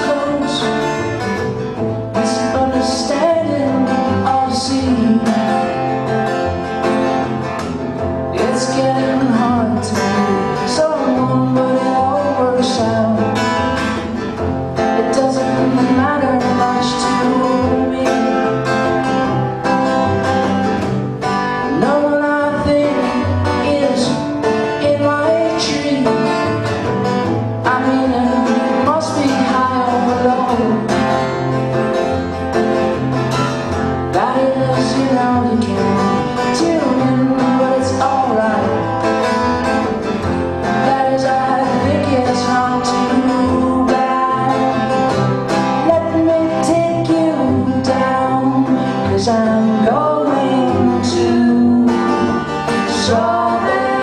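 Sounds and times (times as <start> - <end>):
plucked guitar: 0.0 - 54.0.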